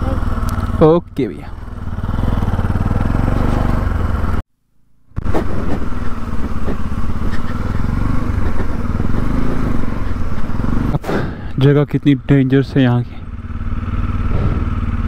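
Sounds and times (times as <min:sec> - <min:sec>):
motorcycle engine running: 0:00.0 - 0:04.4, 0:05.2 - 0:15.0.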